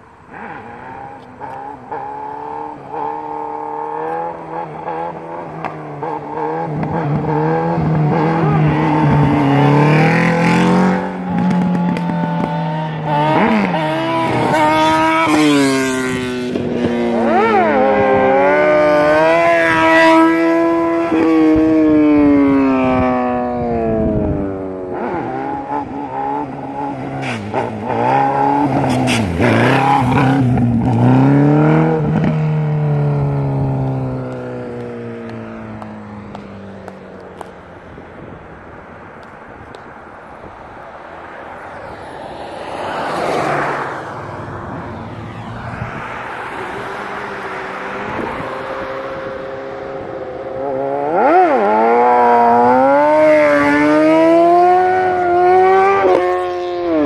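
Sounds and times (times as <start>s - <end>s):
motorcycle engine revving: 0.3s - 37.5s, 42.8s - 57.0s.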